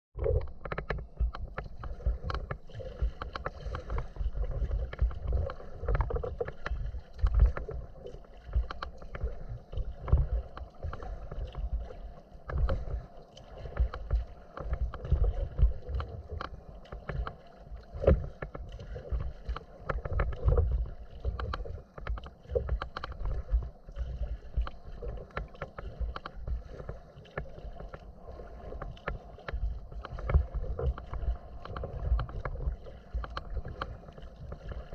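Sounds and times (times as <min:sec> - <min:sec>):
water splashing against kayak hull: 0:00.2 - 0:34.9.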